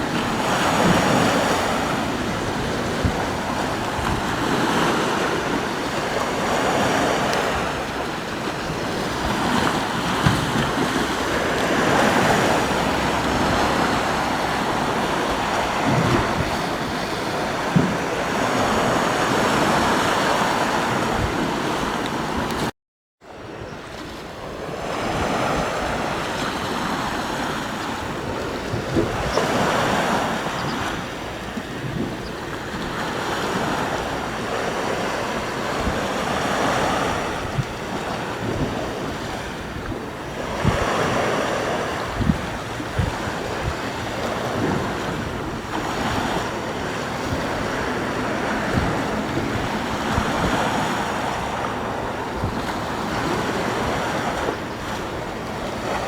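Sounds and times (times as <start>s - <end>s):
waves washing onto shore: 0.0s - 22.7s, 23.3s - 56.0s
wind buffeting microphone: 0.0s - 22.7s, 23.5s - 56.0s.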